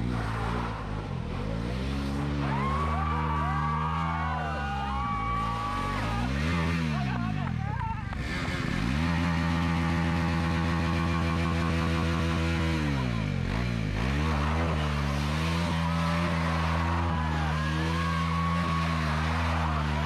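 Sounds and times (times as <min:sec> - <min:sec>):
motorcycle engine revving high: 0:00.0 - 0:20.0.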